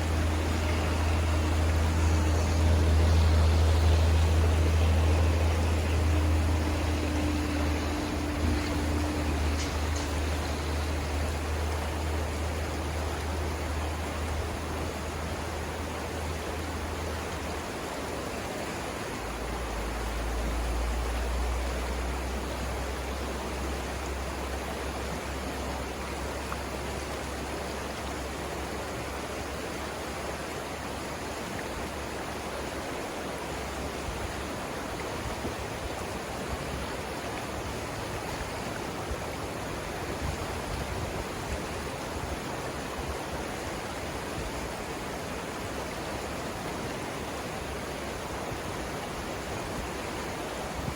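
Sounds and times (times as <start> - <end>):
deep water rumble: 0.0 - 50.9
river water rushing over rapids: 0.0 - 50.9.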